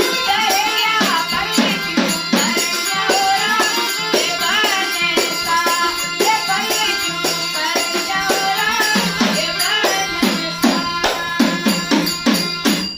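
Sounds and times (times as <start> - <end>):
drum strokes: 0.0 - 12.9
jingling percussion: 0.0 - 12.9
wavering folk melody: 0.0 - 12.9.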